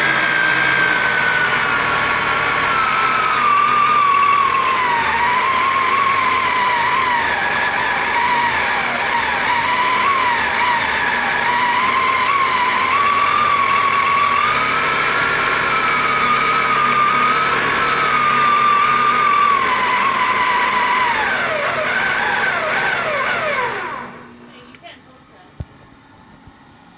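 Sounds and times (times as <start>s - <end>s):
electric motor whining: 0.0s - 24.7s.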